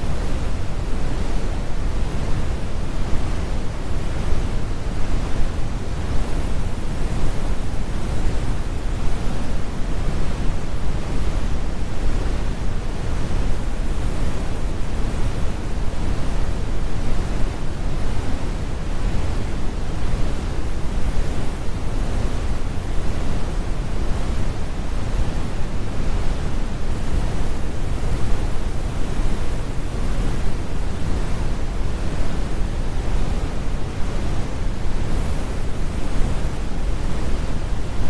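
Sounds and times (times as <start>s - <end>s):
brown noise rumbling hiss: 0.0s - 38.0s.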